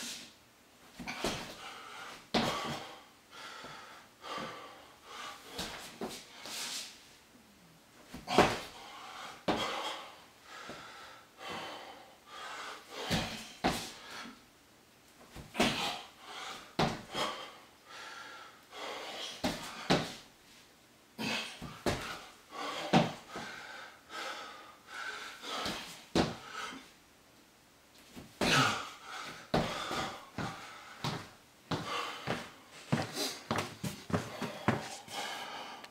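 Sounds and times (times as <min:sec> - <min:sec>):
man panting: 0:01.0 - 0:06.7, 0:08.2 - 0:14.4, 0:15.5 - 0:20.2, 0:21.2 - 0:26.9, 0:28.4 - 0:35.9
man breathing heavily: 0:01.0 - 0:07.0, 0:08.1 - 0:14.4, 0:15.4 - 0:20.6, 0:21.2 - 0:27.0, 0:28.3 - 0:35.9.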